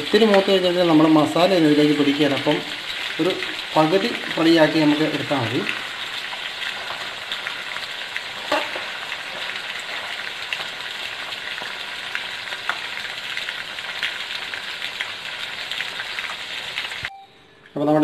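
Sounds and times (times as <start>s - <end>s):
chicken deep-frying in oil: 0.0s - 17.2s.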